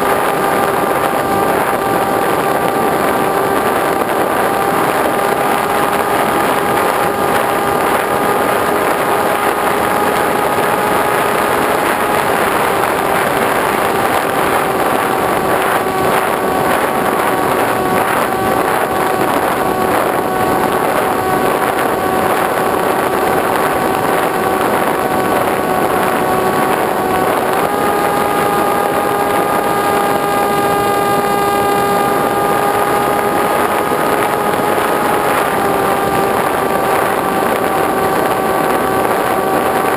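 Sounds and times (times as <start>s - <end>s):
propeller motor whining: 0.0s - 39.9s
wind rushing over microphone: 0.0s - 39.9s.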